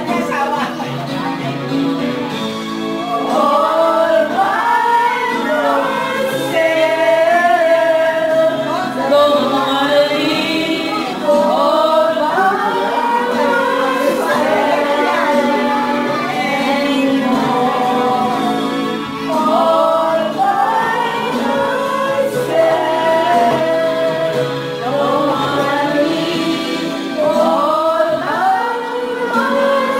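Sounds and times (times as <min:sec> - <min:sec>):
woman singing karaoke: 0:00.0 - 0:01.7, 0:03.0 - 0:29.9
backing track music: 0:00.0 - 0:29.9.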